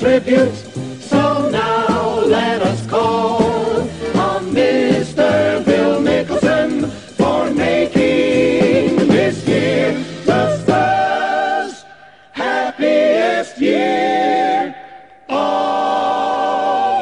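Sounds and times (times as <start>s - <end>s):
voices singing long held notes: 0.0s - 17.0s.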